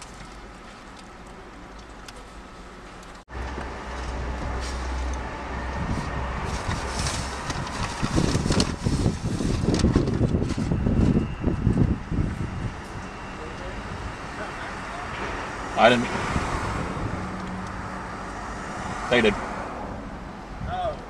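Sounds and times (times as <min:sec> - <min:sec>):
street traffic: 0:00.0 - 0:21.0
wind buffeting microphone: 0:03.4 - 0:21.0.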